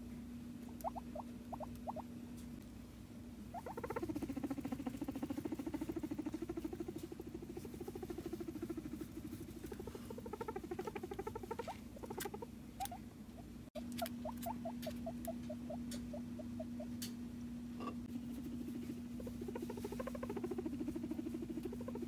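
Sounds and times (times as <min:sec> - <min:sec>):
steady low hum: 0:00.0 - 0:22.0
guinea pig pulsing call: 0:00.6 - 0:02.1, 0:03.4 - 0:17.1, 0:18.2 - 0:22.0.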